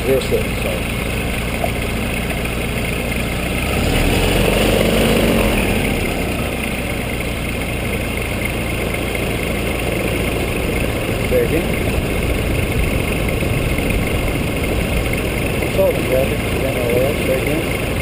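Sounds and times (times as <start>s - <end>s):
aircraft engine and propeller running: 0.0s - 18.0s.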